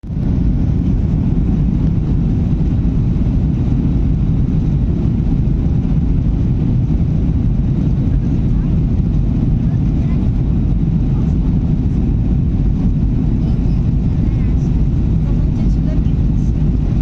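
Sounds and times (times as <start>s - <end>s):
jet airliner low rumble: 0.0s - 17.0s.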